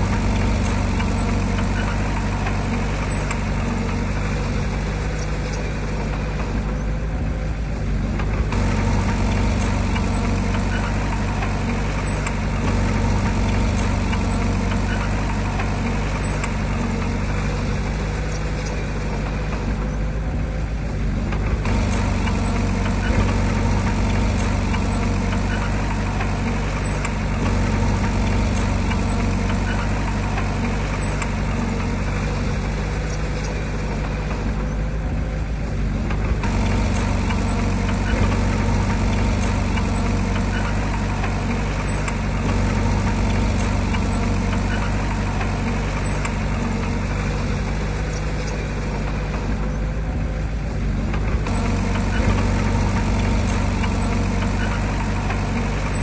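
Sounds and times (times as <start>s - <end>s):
large diesel engine running: 0.0s - 56.0s.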